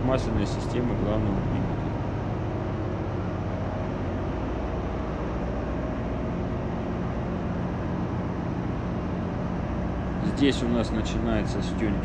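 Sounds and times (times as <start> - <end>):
ship machinery low hum: 0.0 - 12.0.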